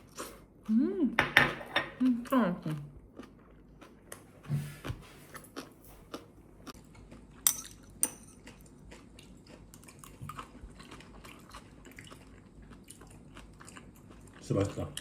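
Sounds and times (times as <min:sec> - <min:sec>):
quiet chewing: 0:02.0 - 0:15.0.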